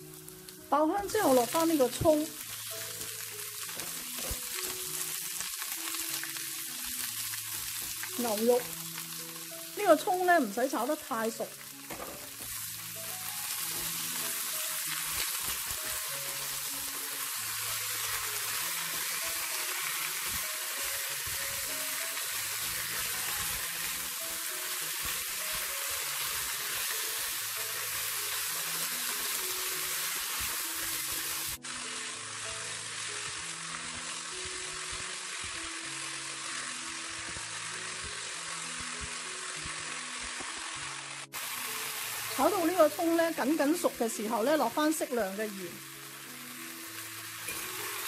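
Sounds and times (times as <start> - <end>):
meat and leek sizzling in oil: 0.0 - 48.0
soft background music: 0.0 - 48.0.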